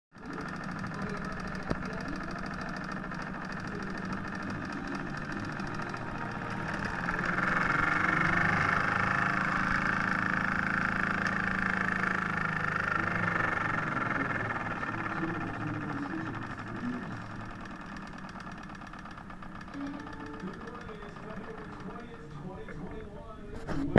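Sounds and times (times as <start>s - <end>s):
steam engine hissing: 0.2s - 22.7s
low mechanical hum: 0.2s - 23.9s.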